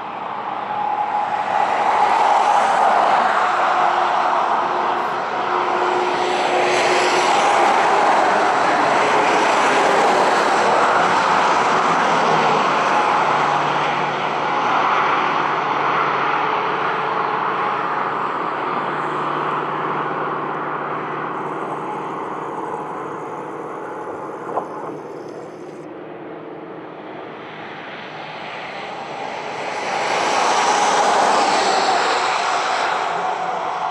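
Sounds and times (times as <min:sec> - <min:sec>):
engine drone: 0:00.0 - 0:33.9.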